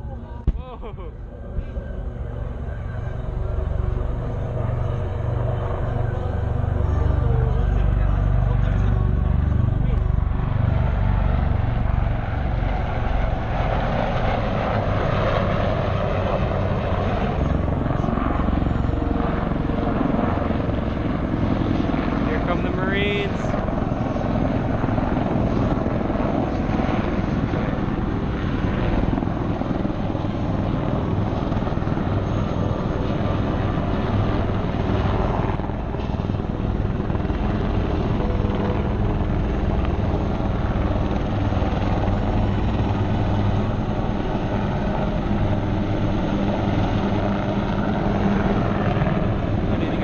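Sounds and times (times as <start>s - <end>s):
helicopters flying: 0.0s - 50.0s.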